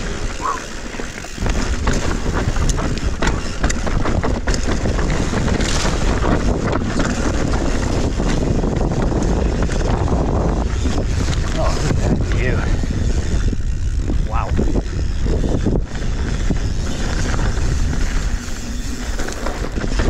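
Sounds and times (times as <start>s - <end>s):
mountain bike rattling and knocking: 0.0s - 20.0s
wind buffeting microphone: 0.0s - 20.0s.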